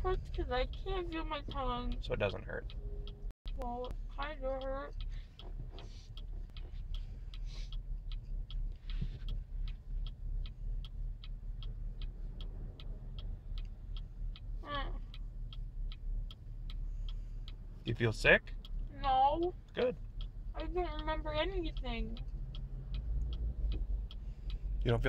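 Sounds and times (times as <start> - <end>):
idling car hum: 0.0 - 25.0
turn signal clicking: 0.0 - 25.0.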